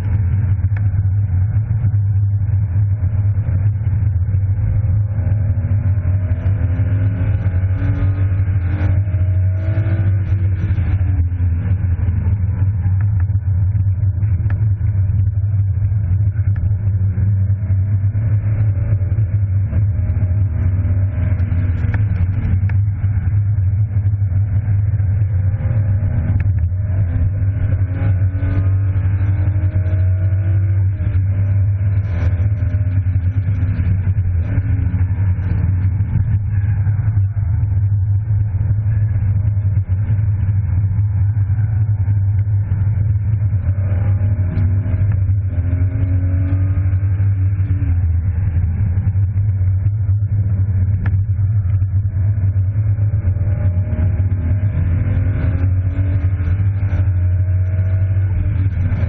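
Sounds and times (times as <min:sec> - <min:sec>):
car engine accelerating: 0:00.0 - 0:59.0
low rumble: 0:00.0 - 0:59.0.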